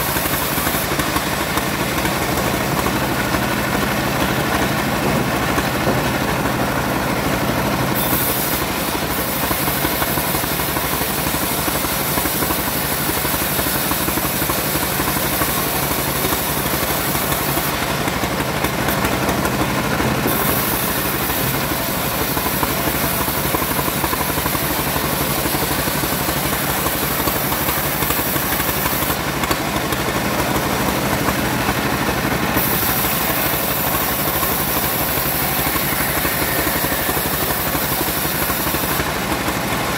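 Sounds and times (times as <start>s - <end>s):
bandsaw mill sawing wood: 0.0s - 39.9s.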